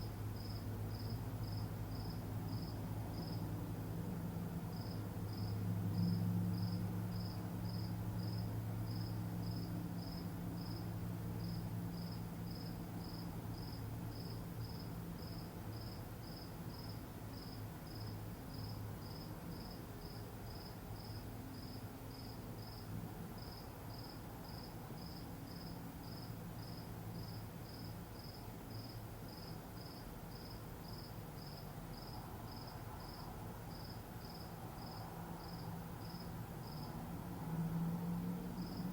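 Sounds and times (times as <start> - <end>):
cricket chirping: 0.3 - 3.6, 4.7 - 37.2, 37.8 - 38.9.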